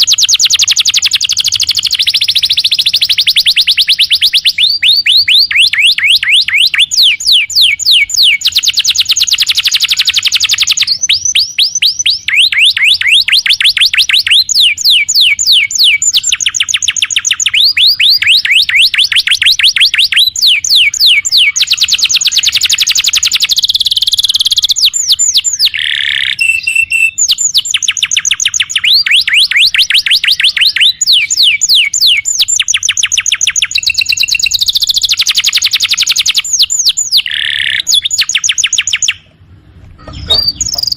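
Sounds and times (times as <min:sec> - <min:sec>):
canary singing fast trills: 0:00.0 - 0:40.9.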